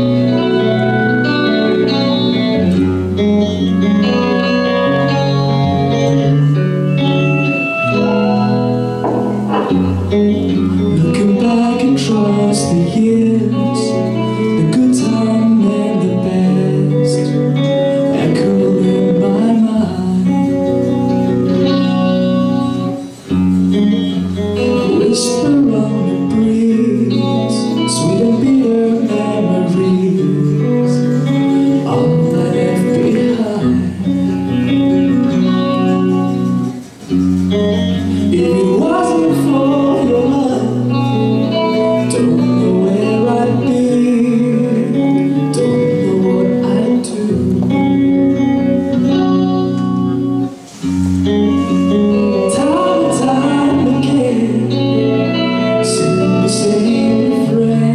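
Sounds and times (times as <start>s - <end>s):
person singing: 0.0s - 36.8s, 37.7s - 57.9s
hard rock band playing: 0.0s - 57.9s.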